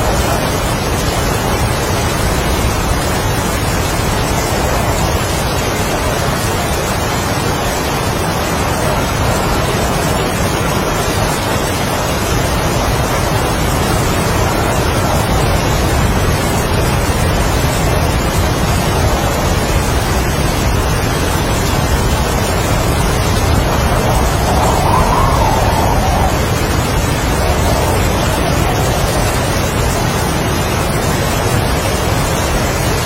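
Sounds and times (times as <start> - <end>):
heavy rain: 0.0 - 33.0
strong wind: 0.0 - 33.0.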